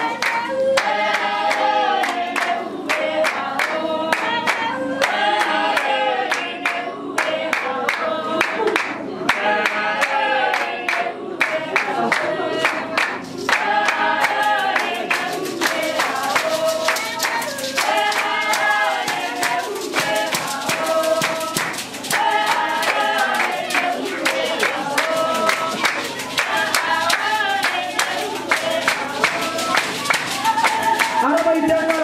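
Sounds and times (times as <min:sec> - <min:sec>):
group singing in chorus: 0:00.0 - 0:32.0
hand claps: 0:00.0 - 0:32.0.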